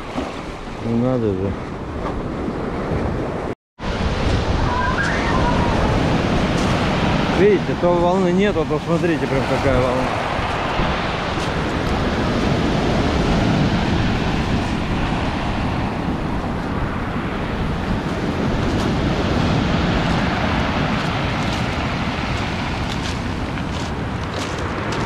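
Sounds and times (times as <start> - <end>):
surf washing on pebble beach: 3.9 - 25.0.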